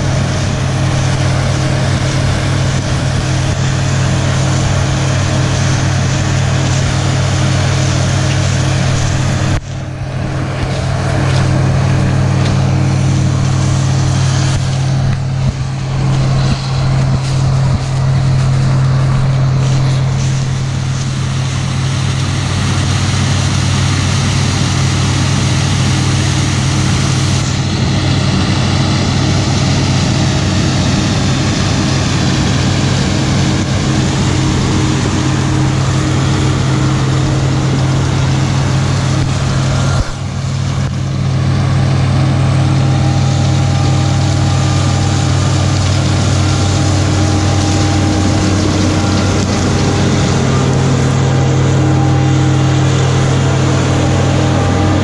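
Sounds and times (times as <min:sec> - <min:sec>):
combine engine drone: 0:00.0 - 0:55.0
faint high whine: 0:00.0 - 0:55.0.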